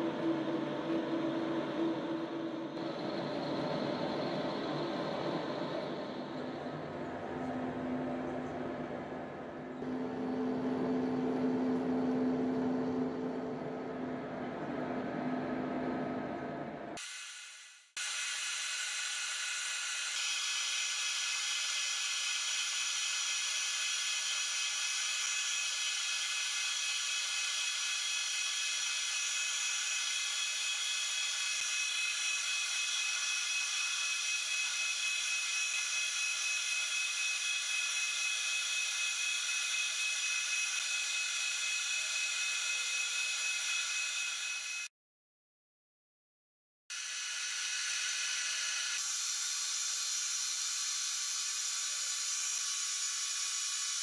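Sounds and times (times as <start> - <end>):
metal lathe whine: 0.0 - 16.1, 18.1 - 44.9, 47.0 - 54.0.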